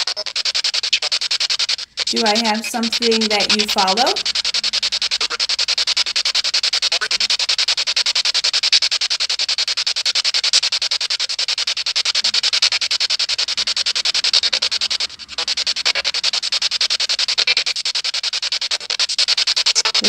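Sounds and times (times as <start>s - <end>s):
pulsing radio static: 0.0s - 20.0s.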